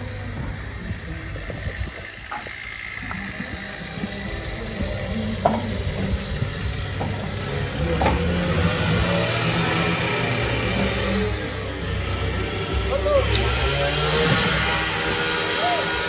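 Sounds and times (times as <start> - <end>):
steady low hum: 0.0 - 15.5.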